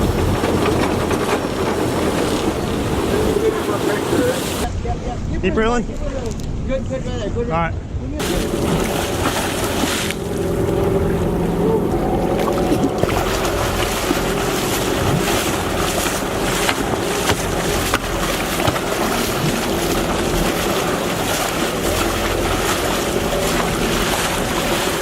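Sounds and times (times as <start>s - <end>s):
boat engine running: 0.0s - 4.7s, 8.2s - 25.0s
water splashing along hull: 0.0s - 5.3s, 8.2s - 25.0s.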